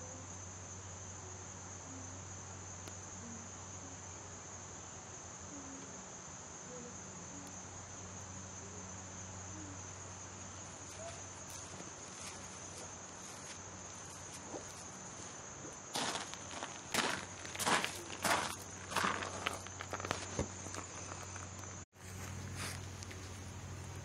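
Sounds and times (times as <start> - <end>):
insects chirring: 0.0 - 24.0
low steady hum: 0.0 - 24.0.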